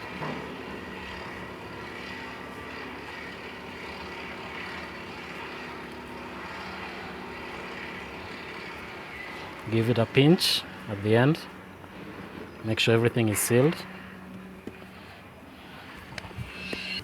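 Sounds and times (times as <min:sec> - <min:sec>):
faint steady tones: 0:00.0 - 0:17.0
steady engine drone: 0:00.0 - 0:17.0.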